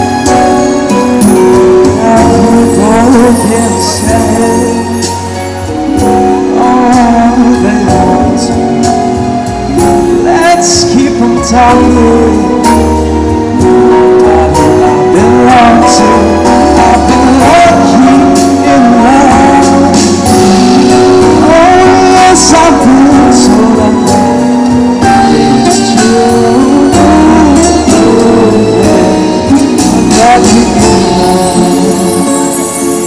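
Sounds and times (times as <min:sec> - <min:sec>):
backing music: 0:00.0 - 0:33.0
man singing pop ballad: 0:00.0 - 0:33.0.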